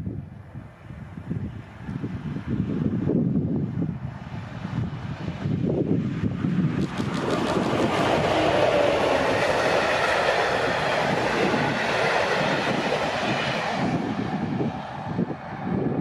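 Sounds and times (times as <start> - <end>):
passenger train passing at speed: 0.0 - 16.0.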